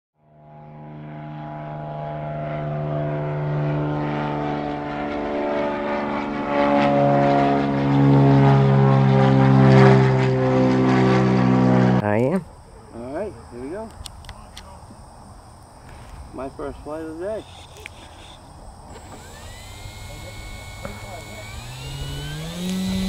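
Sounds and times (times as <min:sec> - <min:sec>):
propeller aircraft engine droning: 0:00.2 - 0:12.0, 0:16.3 - 0:23.0.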